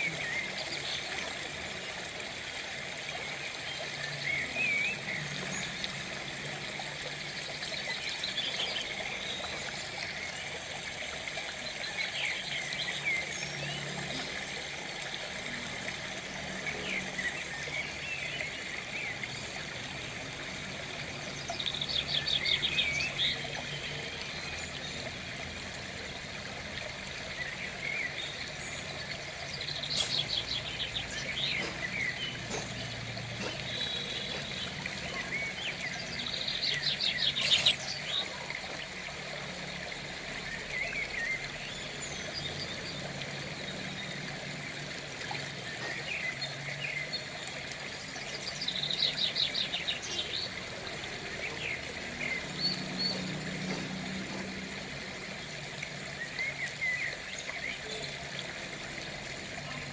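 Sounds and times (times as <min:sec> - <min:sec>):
outdoor background noise: 0:00.0 - 0:59.9
birds chirping: 0:03.1 - 0:39.6, 0:40.4 - 0:58.2.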